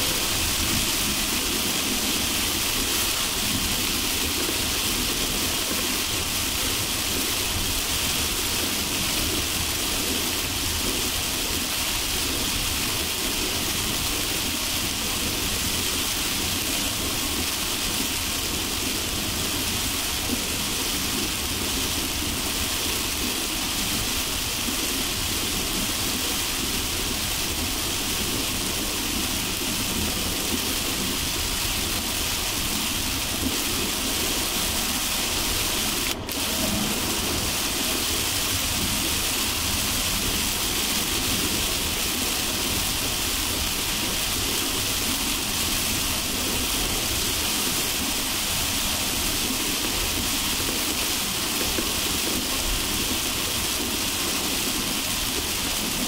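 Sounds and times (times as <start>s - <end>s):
car tyres and engine rumble: 0.0s - 56.0s
heavy rain hissing on car: 0.0s - 56.0s.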